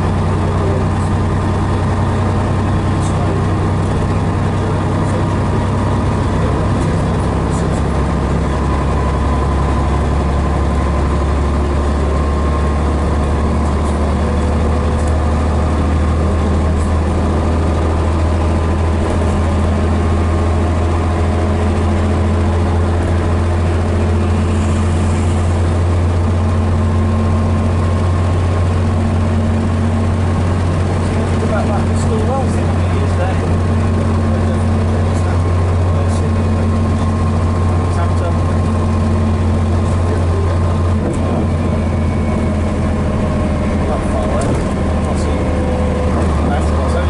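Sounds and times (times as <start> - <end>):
bus diesel engine humming: 0.0 - 47.0.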